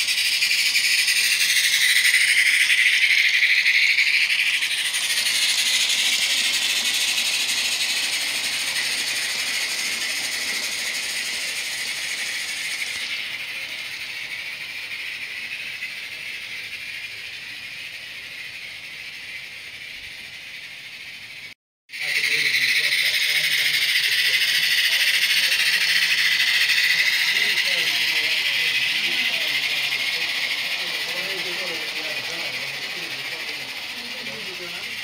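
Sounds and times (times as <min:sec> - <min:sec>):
steam hiss: 0:00.0 - 0:35.0
wheels rattling on track: 0:00.0 - 0:35.0.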